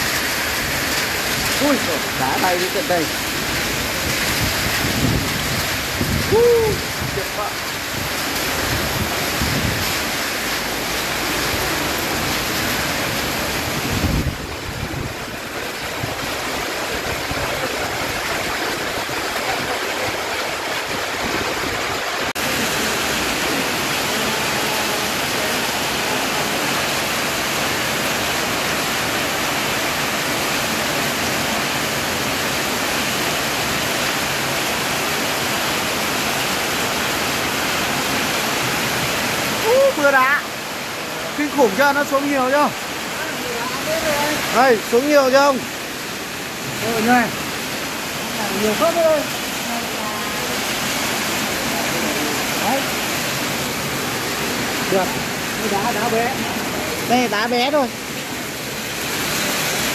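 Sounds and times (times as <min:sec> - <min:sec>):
heavy rain and hail: 0:00.0 - 0:59.9.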